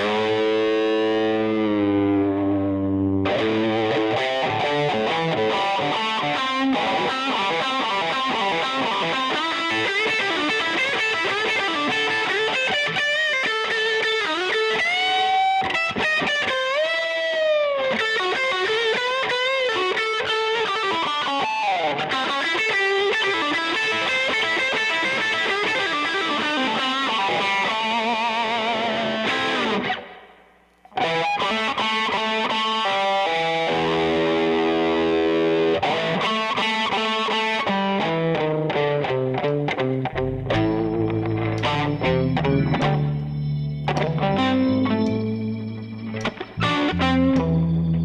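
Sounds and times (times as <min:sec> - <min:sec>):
rock music with distorted guitar: 0:00.0 - 0:48.0.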